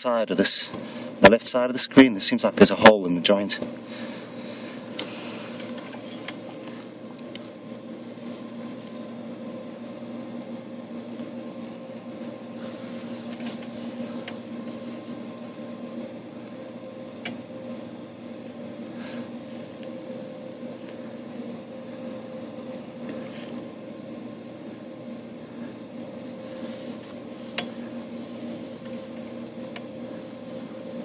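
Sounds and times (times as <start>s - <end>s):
camera equipment mechanical hum: 0.0s - 31.0s.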